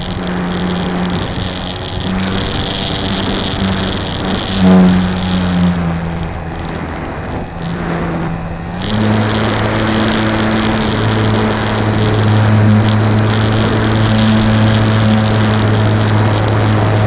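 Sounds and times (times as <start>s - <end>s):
model plane electric motor: 0.0s - 17.0s.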